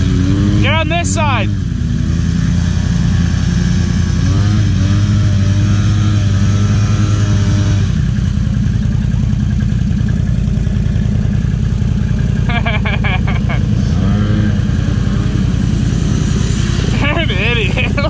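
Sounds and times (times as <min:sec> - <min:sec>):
quad bike engine revving: 0:00.0 - 0:18.0.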